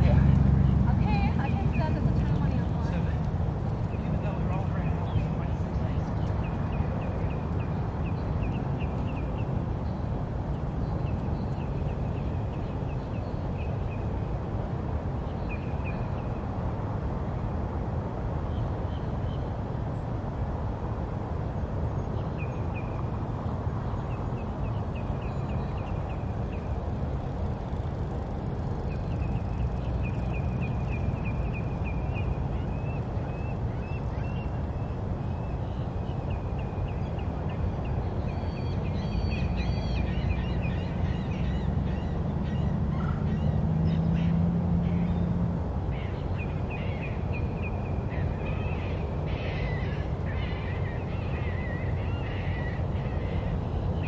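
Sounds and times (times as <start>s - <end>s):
birds chirping: 0.0s - 16.6s, 21.9s - 54.0s.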